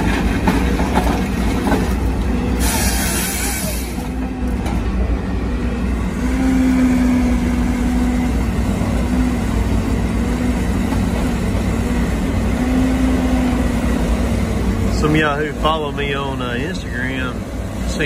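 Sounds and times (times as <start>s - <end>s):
diesel engine rumble: 0.0s - 18.0s.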